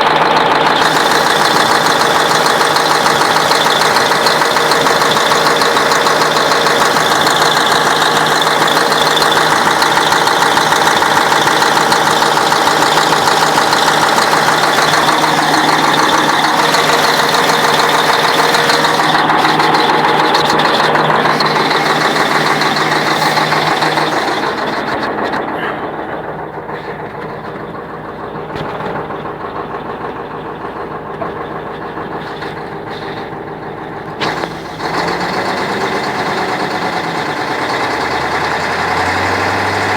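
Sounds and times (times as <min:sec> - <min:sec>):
diesel engine running: 0:00.0 - 0:39.9
engine knock: 0:00.0 - 0:39.9.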